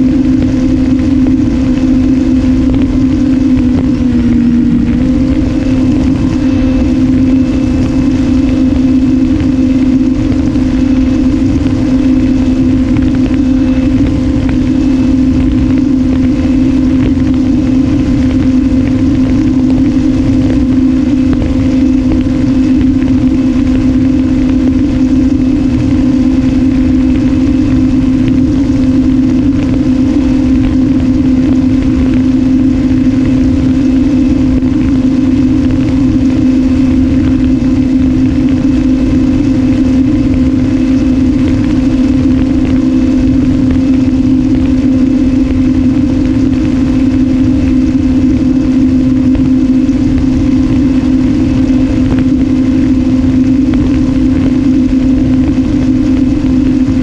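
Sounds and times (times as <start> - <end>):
electric motor and propeller humming: 0.0 - 57.0
wind rumble on microphone: 0.0 - 57.0.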